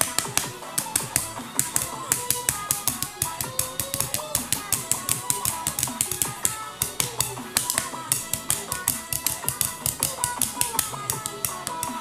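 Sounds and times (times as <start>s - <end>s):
clicking beat: 0.0s - 12.0s.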